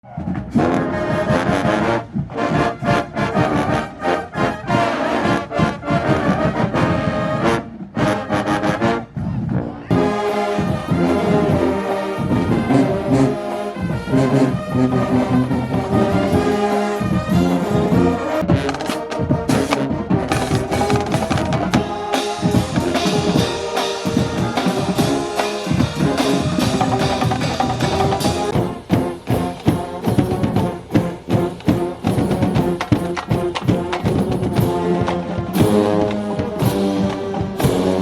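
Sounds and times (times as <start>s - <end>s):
marching band brass playing: 0.0s - 38.0s.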